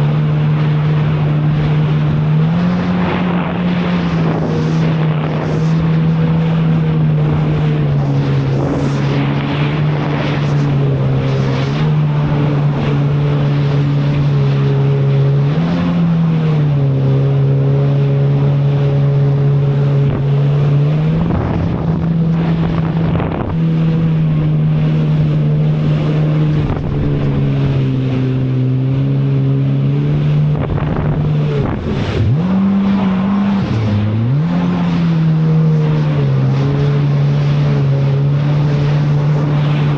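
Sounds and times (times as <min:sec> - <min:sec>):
jet ski engine revving: 0:00.0 - 0:39.9
wind and water rushing: 0:00.0 - 0:39.9.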